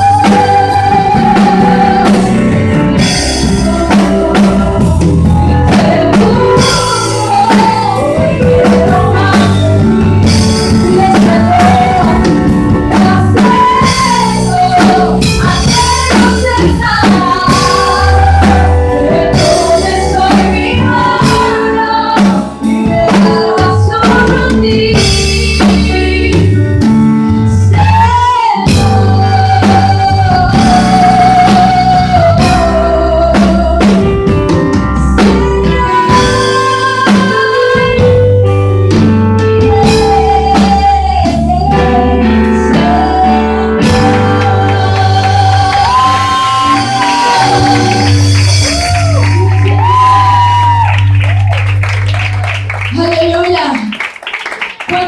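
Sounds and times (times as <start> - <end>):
person singing lead vocals: 0.0 - 26.8, 27.5 - 34.3, 39.5 - 50.9
guitar: 0.0 - 53.6
bass guitar: 0.0 - 53.7
drum kit: 0.0 - 55.0.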